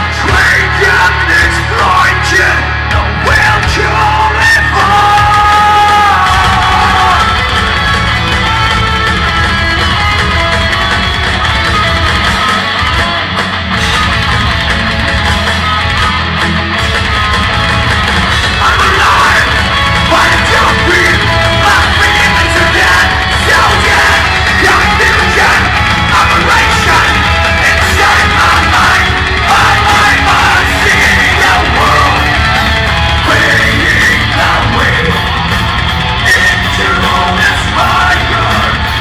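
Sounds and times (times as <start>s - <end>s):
heavy metal band playing live: 0.0s - 39.0s
yelled vocals: 0.0s - 39.0s.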